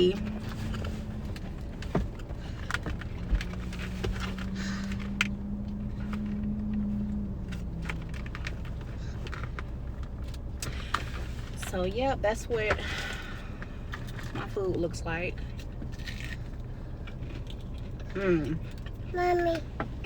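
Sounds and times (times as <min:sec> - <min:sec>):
car idling rumble: 0:00.0 - 0:20.0.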